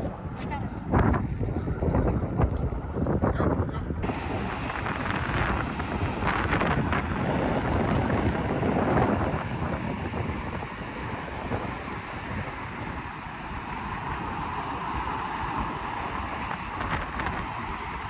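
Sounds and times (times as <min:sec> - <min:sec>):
steady traffic rush: 0:00.0 - 0:18.0
wind buffeting microphone: 0:00.0 - 0:18.0.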